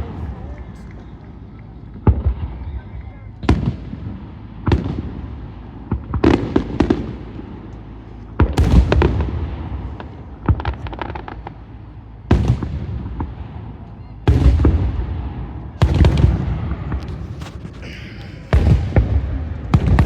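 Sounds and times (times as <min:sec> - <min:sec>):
fireworks booming: 0:00.0 - 0:20.0
fireworks crackling: 0:00.0 - 0:20.0
fireworks popping: 0:00.0 - 0:20.0.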